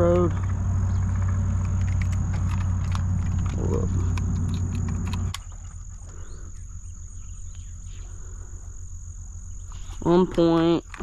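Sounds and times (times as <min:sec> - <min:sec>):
crickets chirping: 0:00.0 - 0:11.0
low steady hum: 0:00.0 - 0:11.0.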